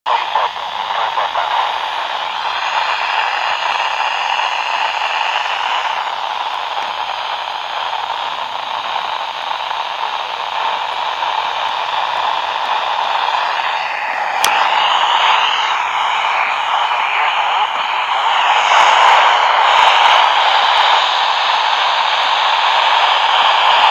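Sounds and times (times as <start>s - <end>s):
radio receiver hiss: 0.1s - 23.9s.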